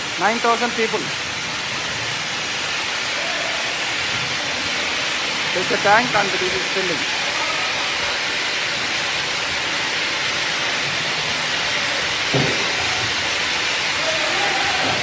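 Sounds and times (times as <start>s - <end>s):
kitchen equipment hissing: 0.0s - 15.0s.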